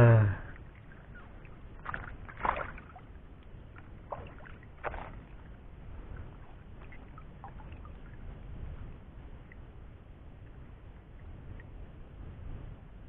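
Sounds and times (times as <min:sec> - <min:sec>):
water splashing and sloshing: 0:00.4 - 0:13.0.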